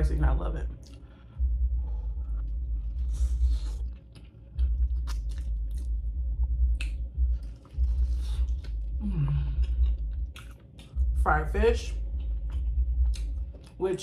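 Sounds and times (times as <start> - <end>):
deep rumble: 0.0 - 14.0
chewing and crunching: 0.7 - 11.2, 11.8 - 14.0.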